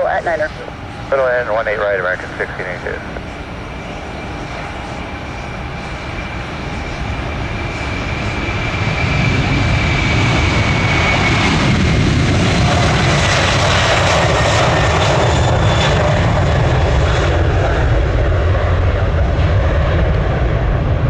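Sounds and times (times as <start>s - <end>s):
jet airliner passing: 0.0s - 21.0s.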